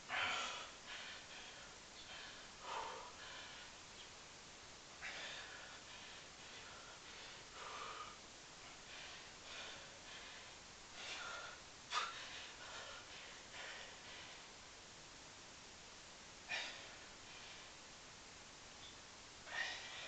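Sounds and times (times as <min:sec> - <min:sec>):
man breathing heavily: 0:00.0 - 0:14.7, 0:16.4 - 0:18.0, 0:18.8 - 0:20.0.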